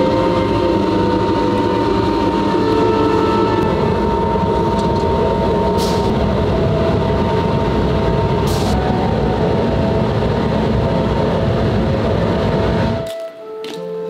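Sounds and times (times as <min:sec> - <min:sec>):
faint steady whine: 0:00.0 - 0:13.0
furnace rumbling rush: 0:00.0 - 0:13.1.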